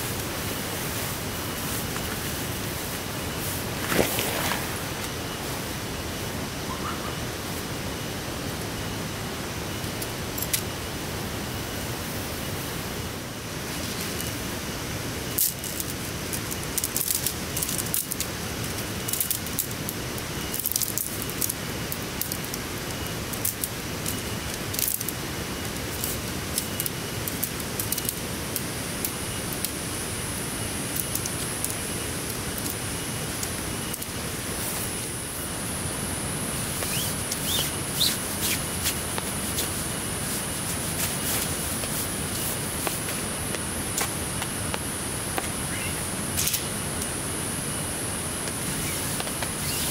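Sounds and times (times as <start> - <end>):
heavy rain hissing: 0.0 - 49.9
thin high-pitched whine: 0.0 - 49.9.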